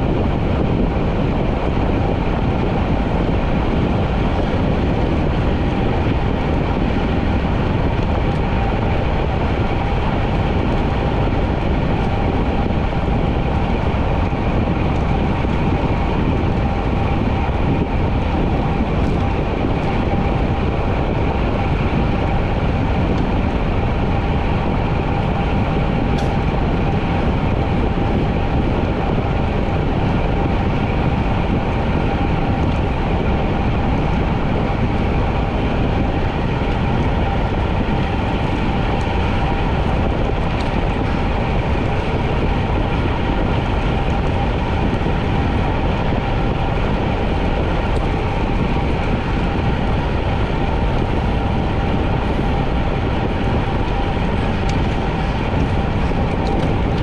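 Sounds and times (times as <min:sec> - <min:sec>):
bicycle tyre hum: 0:00.0 - 0:57.0
faint steady whine: 0:00.0 - 0:57.0
wind noise: 0:00.0 - 0:57.0.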